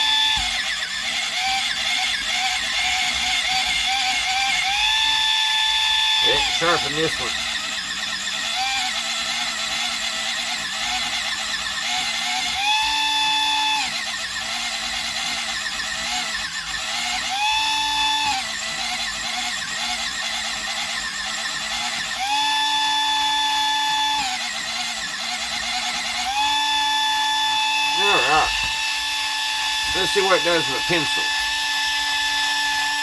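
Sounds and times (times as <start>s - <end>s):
electric pencil sharpener whine: 0.0s - 33.0s.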